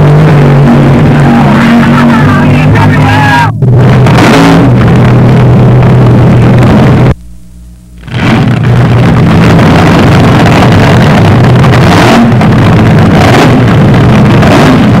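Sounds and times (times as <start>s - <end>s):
drag racing car engines running: 0.0s - 7.2s, 7.8s - 15.0s.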